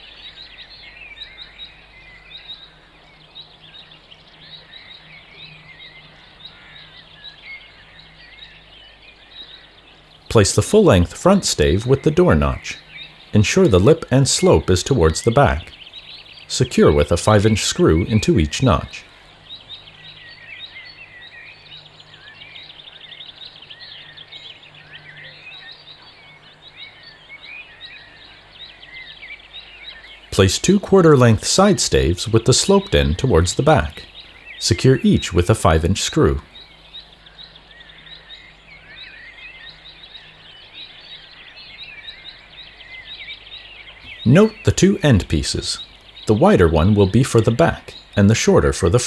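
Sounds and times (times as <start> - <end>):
small birds chirping chorus: 0.0 - 49.0
steady background hiss: 0.0 - 49.0.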